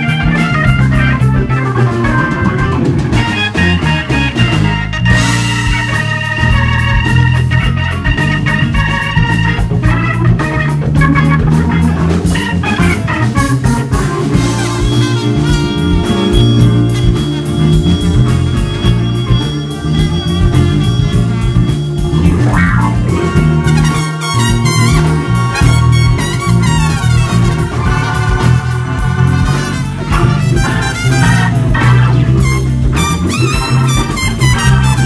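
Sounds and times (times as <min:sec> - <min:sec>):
drum kit: 0:00.0 - 0:35.0
electric bass: 0:00.0 - 0:35.0
jazz blues band playing: 0:00.0 - 0:35.0
organ: 0:00.0 - 0:35.0.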